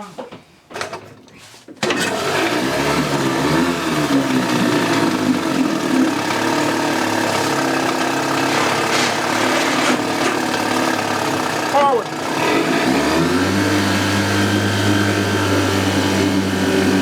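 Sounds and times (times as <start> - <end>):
outboard motor idling: 2.2 - 17.0.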